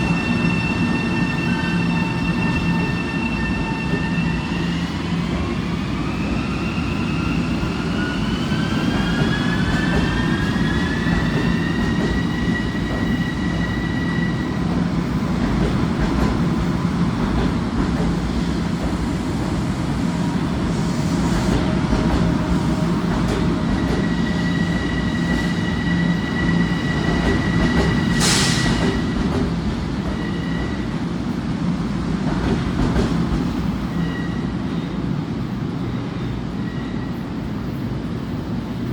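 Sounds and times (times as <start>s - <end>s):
passenger train rumbling: 0.0s - 38.9s.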